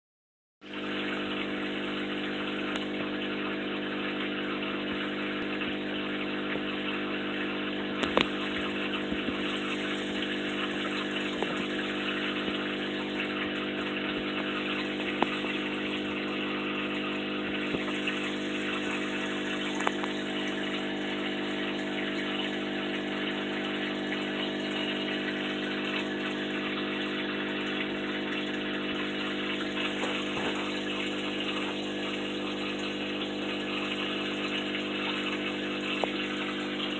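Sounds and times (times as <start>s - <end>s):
aquarium pump humming: 0.6s - 36.9s
rushing water: 0.7s - 36.9s.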